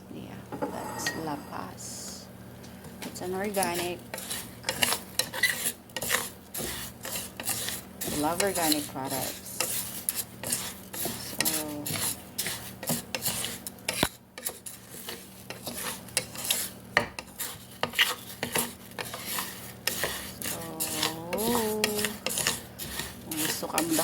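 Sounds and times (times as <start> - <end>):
spoon stirring rice in pot: 2.9 - 24.0.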